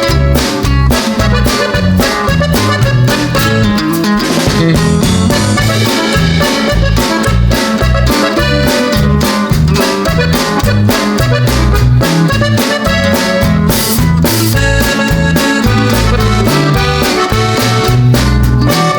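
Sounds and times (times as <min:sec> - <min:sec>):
accordion: 0:00.0 - 0:18.9
drum kit beat: 0:00.0 - 0:18.9
walking bass line: 0:00.0 - 0:18.9.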